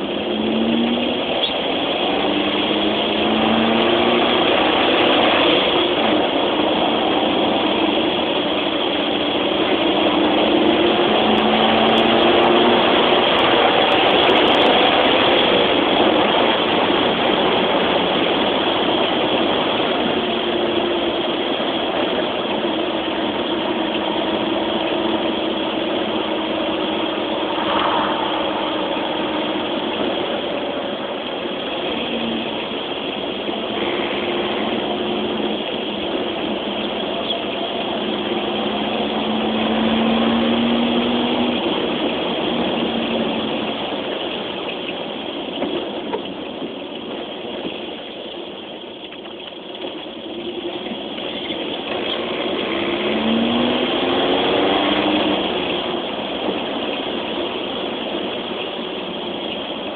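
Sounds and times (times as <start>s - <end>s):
car engine drone: 0.0s - 59.9s
road noise: 0.0s - 59.9s.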